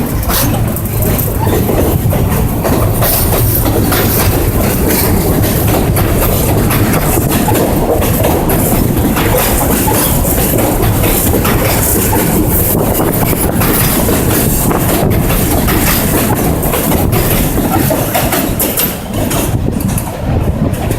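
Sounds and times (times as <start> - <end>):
subway train rumbling past: 0.0 - 20.9
wheels clacking over rail joints: 0.0 - 20.9.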